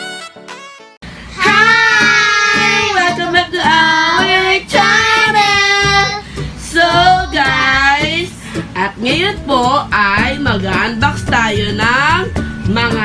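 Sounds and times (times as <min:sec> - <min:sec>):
instrumental accompaniment: 0:00.0 - 0:13.0
high singing voice: 0:01.3 - 0:13.0.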